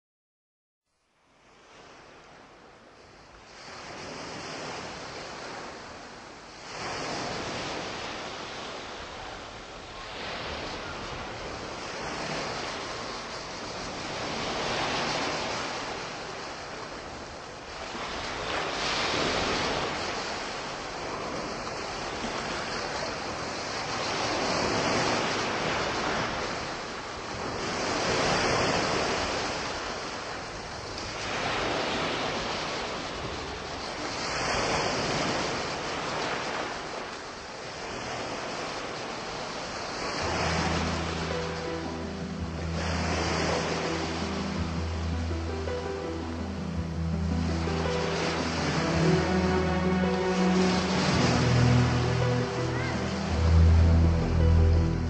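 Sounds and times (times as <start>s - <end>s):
sea waves breaking on shore: 1.2s - 55.0s.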